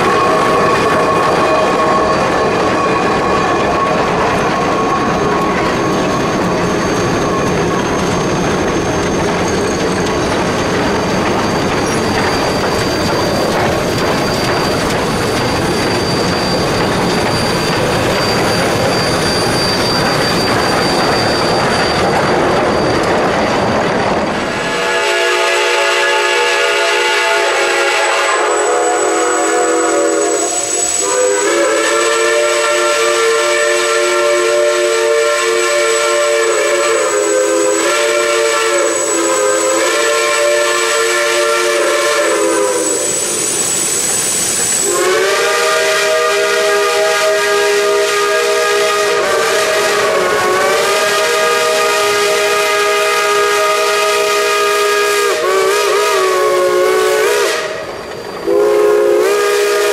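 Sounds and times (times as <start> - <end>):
steam locomotive whistles: 0.0 - 59.9.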